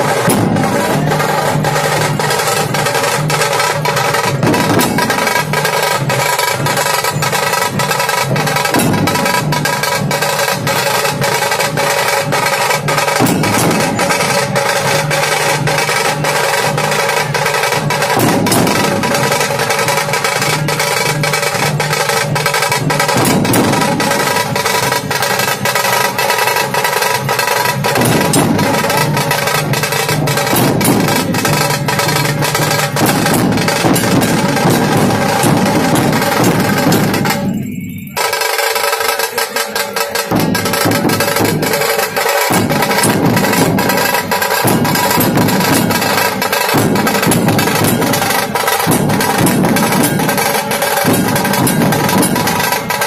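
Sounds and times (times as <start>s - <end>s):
percussion beat: 0.0s - 53.0s.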